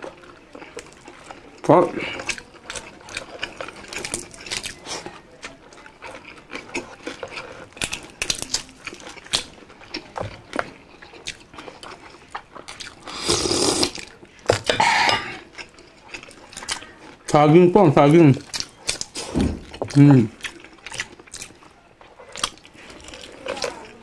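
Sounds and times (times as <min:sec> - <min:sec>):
chewing and lip smacks: 0:00.0 - 0:14.7, 0:15.4 - 0:24.0.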